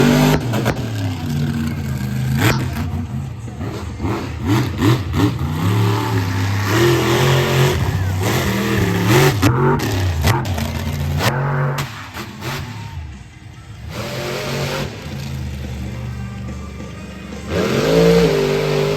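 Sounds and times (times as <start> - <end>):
truck engine revving hard: 0.0 - 18.9.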